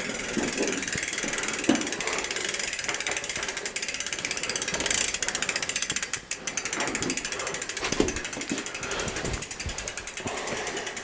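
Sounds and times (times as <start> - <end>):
bicycle freewheel clicking: 0.0 - 11.0.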